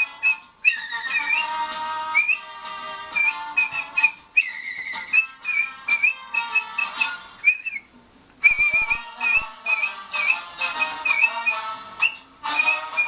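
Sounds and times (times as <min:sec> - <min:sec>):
instrumental backing track: 0:00.0 - 0:13.0
person whistling trilling melody: 0:00.0 - 0:13.0.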